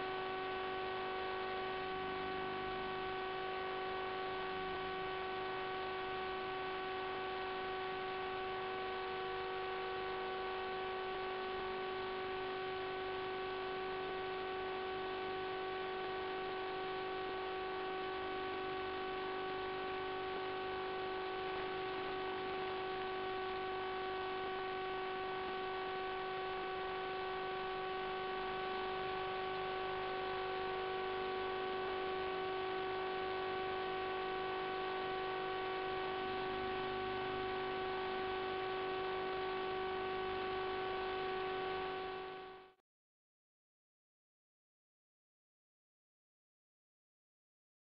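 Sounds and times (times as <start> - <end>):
steady electrical hum: 0.0 - 42.7.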